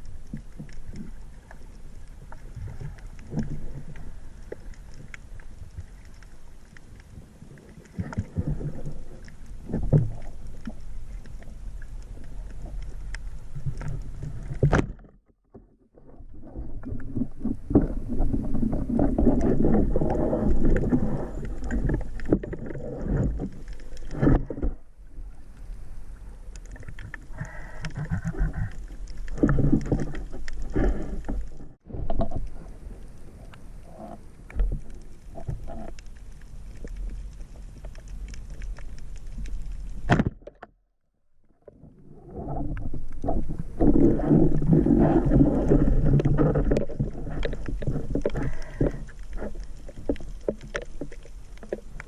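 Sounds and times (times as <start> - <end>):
sea water splashing: 0.0 - 15.2, 16.0 - 40.7, 41.6 - 52.0.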